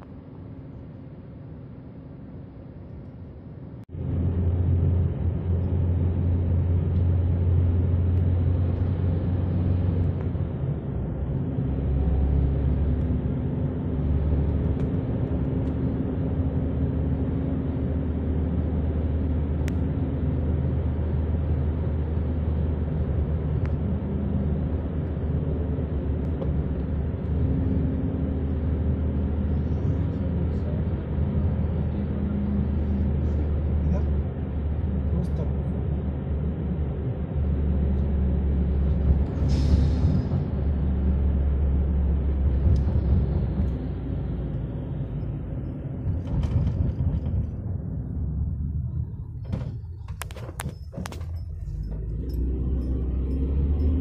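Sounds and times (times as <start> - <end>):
car driving road noise: 0.0 - 54.0.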